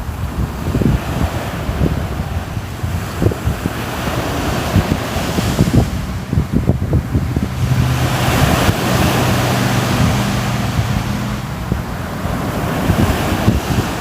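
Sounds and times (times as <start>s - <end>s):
waves washing on shore: 0.0s - 14.0s
wind on microphone: 0.0s - 14.0s.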